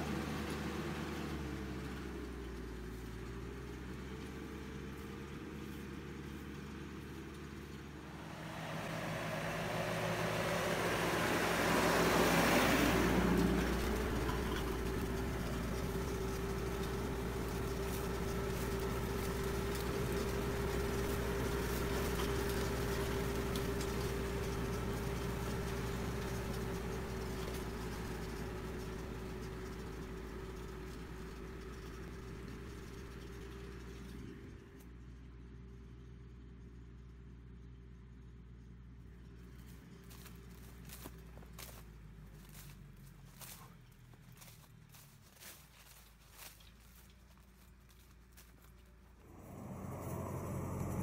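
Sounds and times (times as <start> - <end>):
tractor engine running under load: 0.0 - 51.0.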